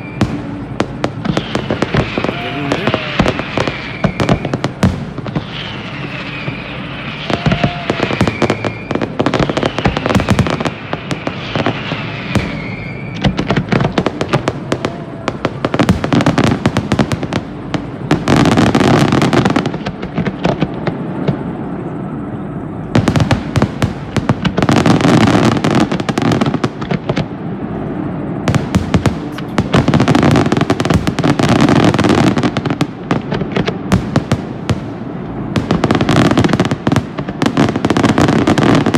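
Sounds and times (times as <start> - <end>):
firework bangs and crackles: 0.0 - 38.9
firework whistles: 0.0 - 38.9.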